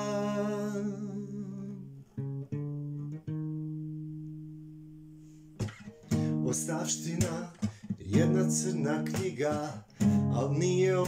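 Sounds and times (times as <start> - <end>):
guitar playing: 0.0 - 11.0.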